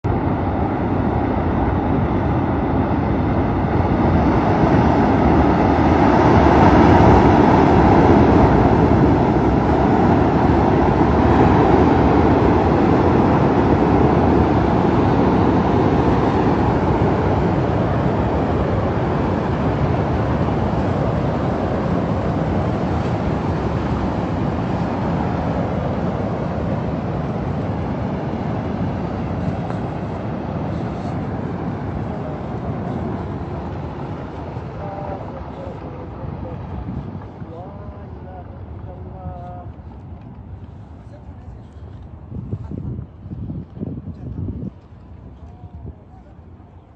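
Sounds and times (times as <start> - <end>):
rushing floodwater: 0.3 - 40.0.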